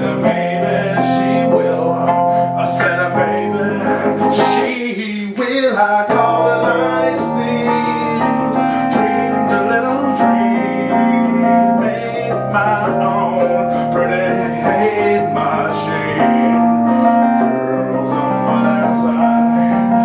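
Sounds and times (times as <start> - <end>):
electric piano chords: 0.0 - 20.0.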